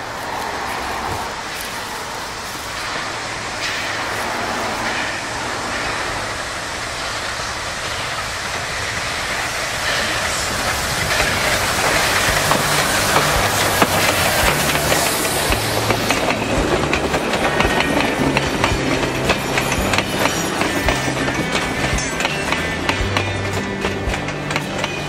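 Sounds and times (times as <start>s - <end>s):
steam locomotive running: 0.0s - 25.0s
wheels clicking over rail joints: 0.0s - 25.0s.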